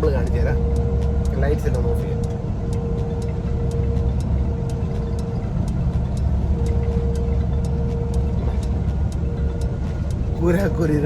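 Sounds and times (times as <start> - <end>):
steady hum: 0.0 - 11.0
truck engine and road rumble: 0.0 - 11.0.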